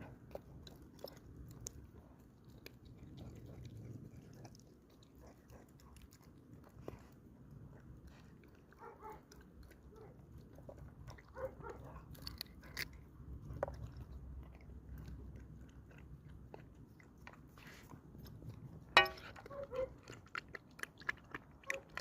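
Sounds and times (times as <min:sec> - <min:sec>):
puppy chewing and biting: 0:00.0 - 0:22.0.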